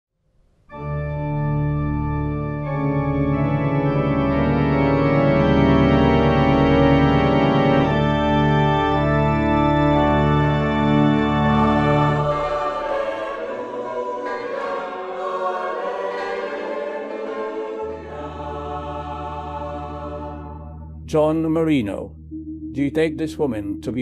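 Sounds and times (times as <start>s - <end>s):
organ playing sustained chords: 0.7s - 24.0s.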